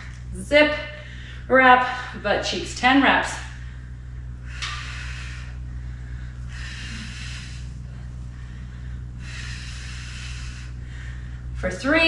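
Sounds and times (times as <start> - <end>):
steady low hum: 0.0 - 12.0
woman breathing: 0.9 - 2.2, 3.3 - 11.9.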